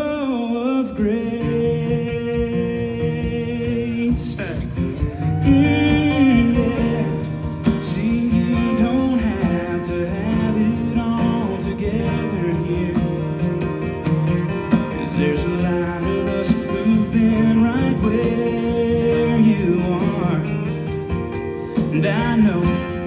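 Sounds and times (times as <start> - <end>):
country gospel band playing: 0.0 - 23.0.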